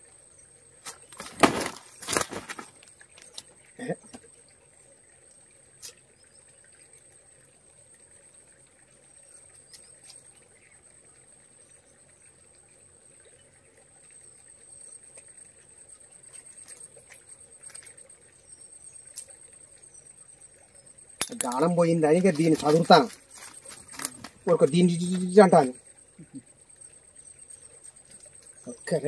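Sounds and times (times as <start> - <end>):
high-pitched insect trill: 0.0 - 29.0.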